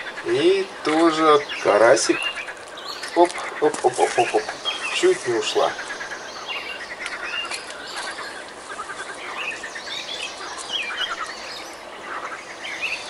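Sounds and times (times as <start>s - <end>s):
songbirds chirping and trilling: 0.0s - 13.0s
steady outdoor hiss: 0.0s - 13.0s.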